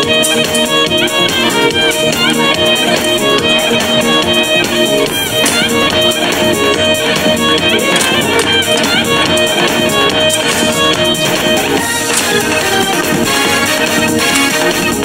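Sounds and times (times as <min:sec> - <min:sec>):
instrumental film music with strings: 0:00.0 - 0:15.0.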